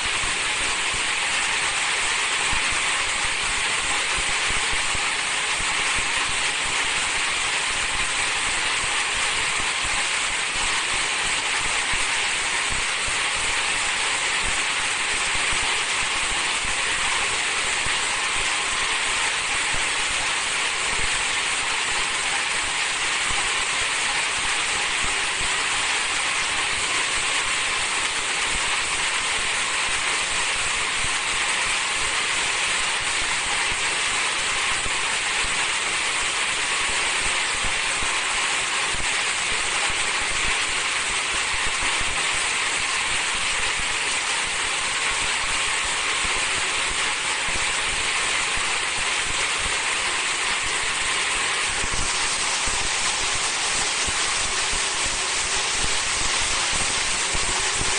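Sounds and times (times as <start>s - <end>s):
machine running with steady hiss: 0.0s - 57.9s.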